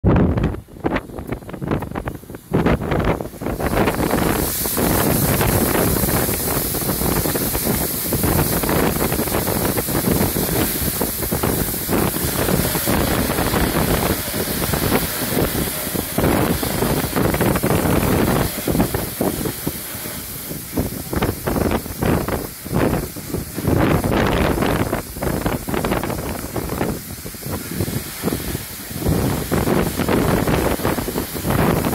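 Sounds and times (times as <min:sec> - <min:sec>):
wind gusts on microphone: 0:00.0 - 0:31.9
grain pouring into hopper: 0:02.2 - 0:31.9.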